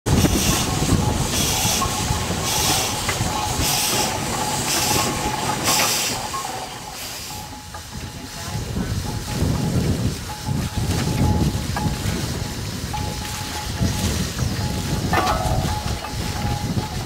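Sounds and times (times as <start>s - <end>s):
low engine rumble: 0.1s - 17.0s
steam exhaust puffing: 0.1s - 17.0s.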